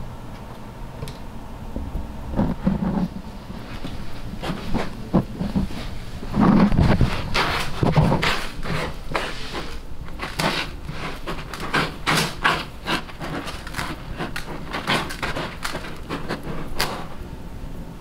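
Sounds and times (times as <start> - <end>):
cat scratching in litter: 2.6 - 17.3.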